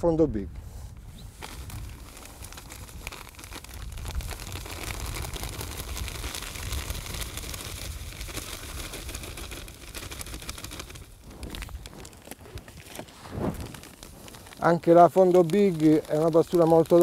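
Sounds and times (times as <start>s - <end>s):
plastic bag crinkling: 1.3s - 17.0s
groundbait pouring into bucket: 1.8s - 12.2s, 13.7s - 17.0s.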